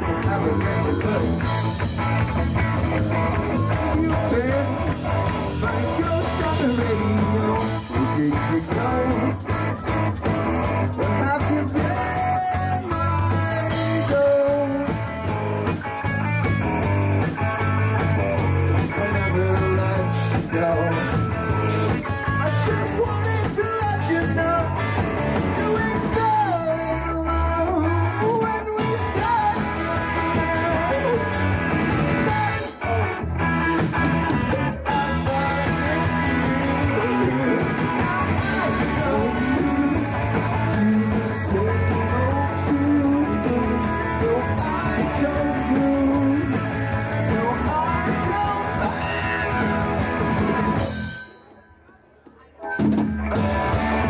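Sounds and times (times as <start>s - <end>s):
person singing: 0.0s - 1.7s, 3.2s - 10.2s, 10.9s - 15.2s, 18.8s - 33.8s, 34.5s - 50.0s
rock band playing live: 0.0s - 54.0s.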